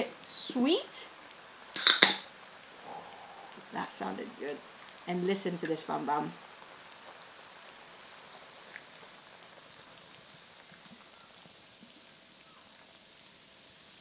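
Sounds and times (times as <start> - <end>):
pan fizzing and sizzling: 0.0 - 14.0.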